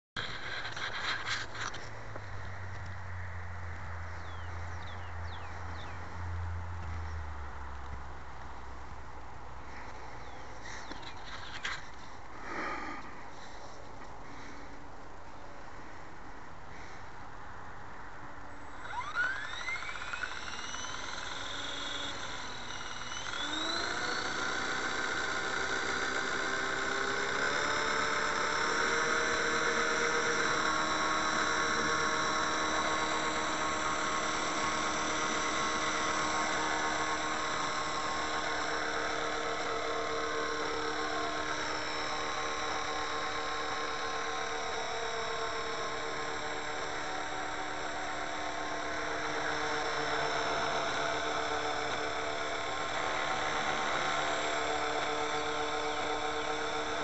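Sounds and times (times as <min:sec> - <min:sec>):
model helicopter motor whine: 0:00.2 - 0:07.2, 0:10.2 - 0:13.8, 0:18.7 - 0:57.0
rotor hum: 0:00.2 - 0:57.0.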